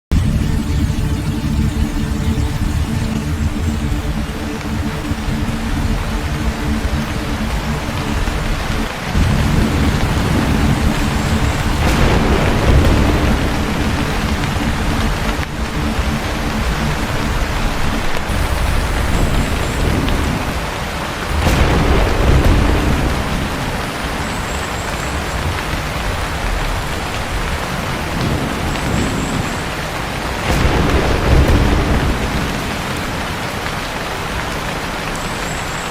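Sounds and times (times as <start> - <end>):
thunder rumbling: 0.1 - 35.1
heavy rain: 0.1 - 35.9.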